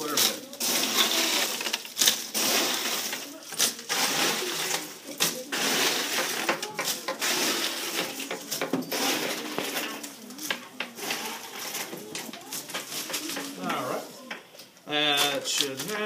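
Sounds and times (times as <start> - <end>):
ice cubes clattering: 0.0 - 14.1, 15.0 - 16.0.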